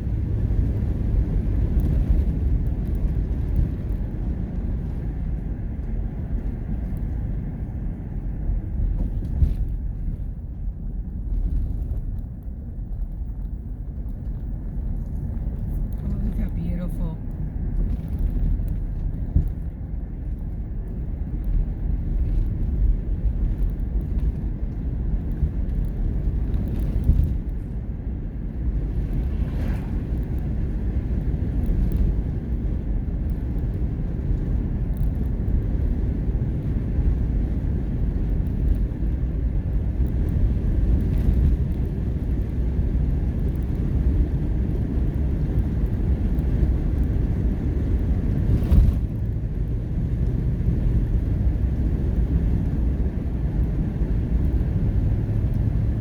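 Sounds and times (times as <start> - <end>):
moving vehicle rumble: 0.0 - 56.0.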